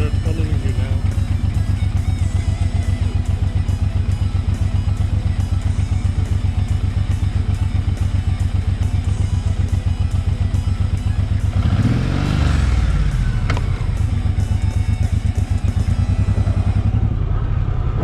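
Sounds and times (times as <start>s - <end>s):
background music with beat: 0.0s - 17.0s
motorcycle engine running: 0.0s - 18.0s.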